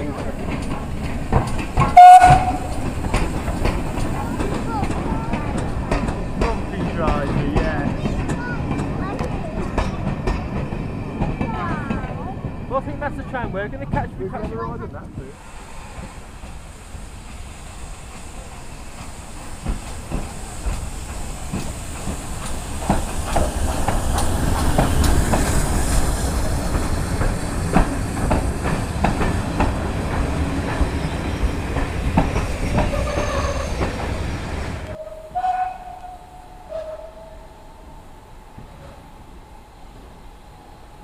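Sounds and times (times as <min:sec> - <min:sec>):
train wheels clacking over rails: 0:00.0 - 0:35.6.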